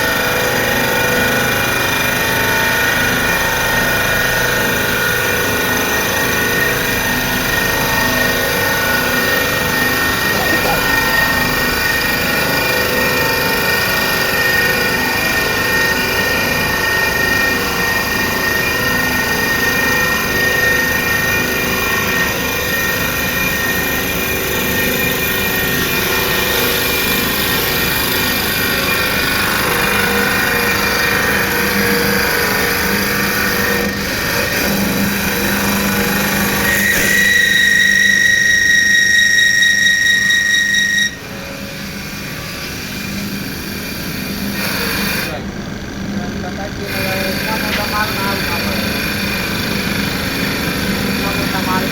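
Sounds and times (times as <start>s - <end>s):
high machine whine: 0.0s - 51.9s
lathe machining noise: 0.0s - 51.9s.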